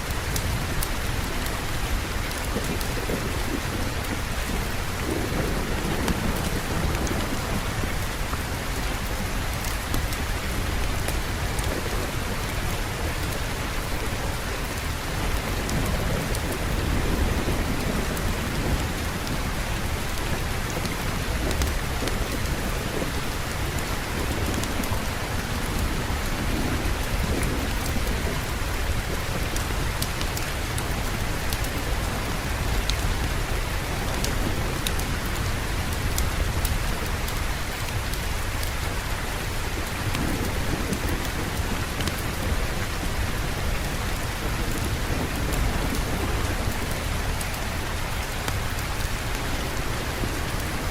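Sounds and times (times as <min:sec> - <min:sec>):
steady rain falling: 0:00.0 - 0:50.9
low rumble of thunder: 0:00.1 - 0:50.9.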